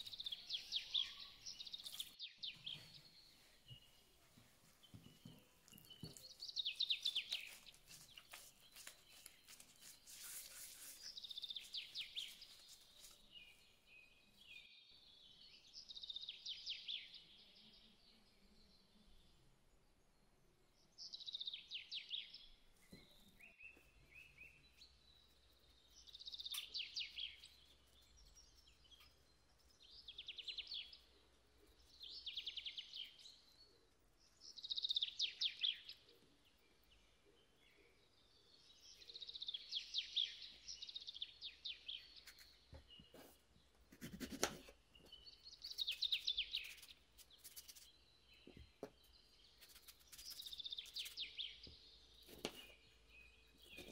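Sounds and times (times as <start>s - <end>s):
bird chirping: 0.0s - 53.9s.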